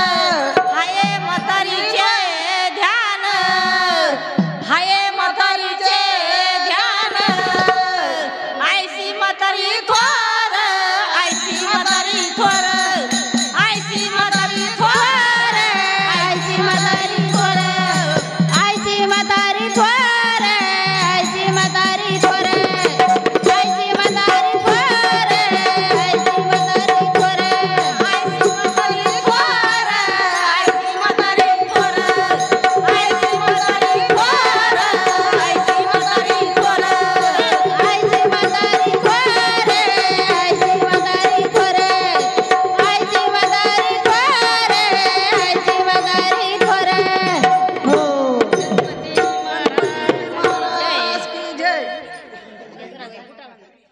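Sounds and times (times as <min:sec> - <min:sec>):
jingling percussion: 0:00.0 - 0:08.0, 0:09.6 - 0:52.4
tabla drumming: 0:00.0 - 0:52.4.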